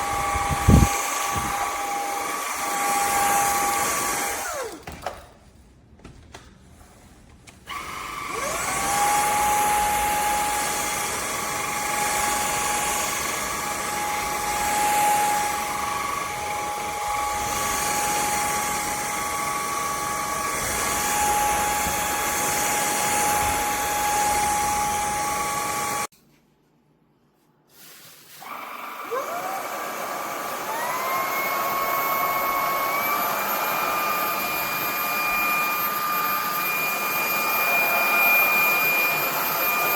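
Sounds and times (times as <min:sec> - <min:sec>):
stick vacuum motor whining: 0:00.0 - 0:05.2, 0:07.7 - 0:26.1, 0:28.4 - 0:39.9.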